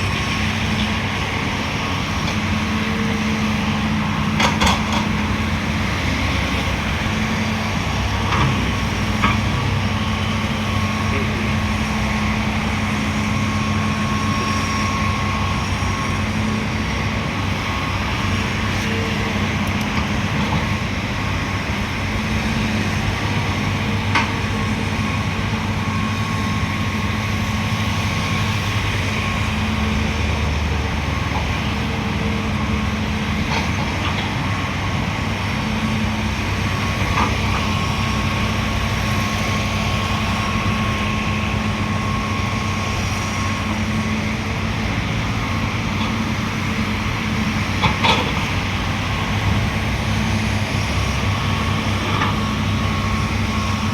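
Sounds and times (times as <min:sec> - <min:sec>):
heavy diesel machinery engine: 0:00.0 - 0:53.9.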